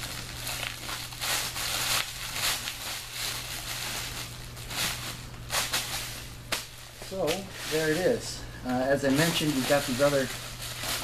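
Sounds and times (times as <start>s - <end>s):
crinkly plastic rustling: 0.0s - 11.0s
steady low hum: 0.0s - 11.0s.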